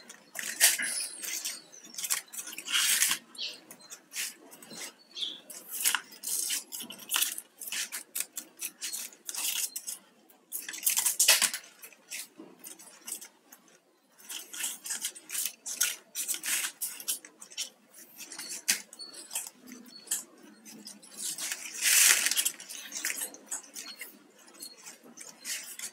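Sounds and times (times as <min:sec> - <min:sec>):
plastic wire strands rustling: 0:00.0 - 0:25.9.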